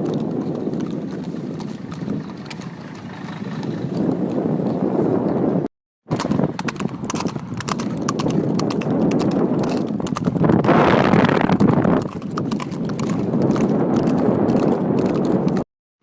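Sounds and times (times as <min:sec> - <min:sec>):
horse hooves clip-clopping: 0:00.0 - 0:15.6.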